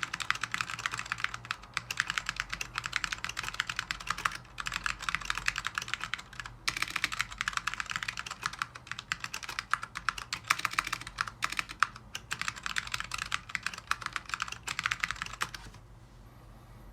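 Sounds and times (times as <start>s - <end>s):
fast mechanical keyboard typing: 0.0s - 15.8s.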